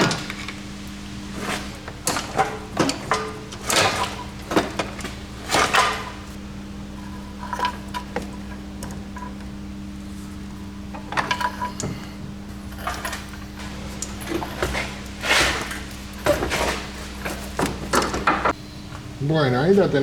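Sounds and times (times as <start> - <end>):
metallic clanks of tools and car parts: 0.0 - 18.6
steady low hum: 0.0 - 20.0.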